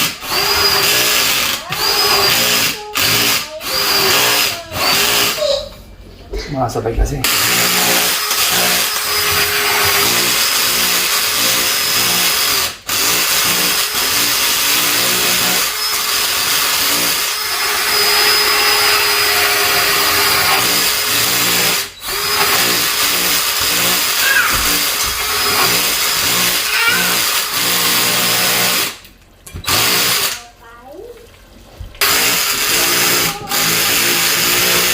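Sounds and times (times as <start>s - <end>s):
power drill boring through drywall: 0.0s - 5.7s, 7.2s - 30.4s, 32.0s - 34.9s.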